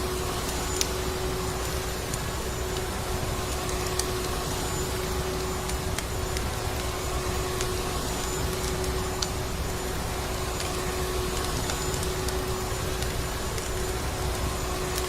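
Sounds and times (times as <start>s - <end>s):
wood fire crackles: 0.0s - 15.0s.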